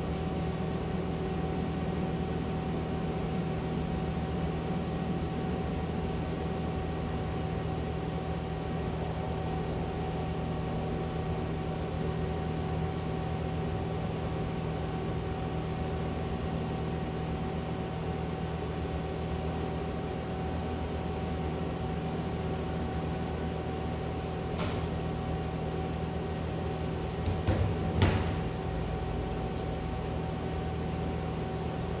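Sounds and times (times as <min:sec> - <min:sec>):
electrical hum with tones: 0:00.0 - 0:32.0.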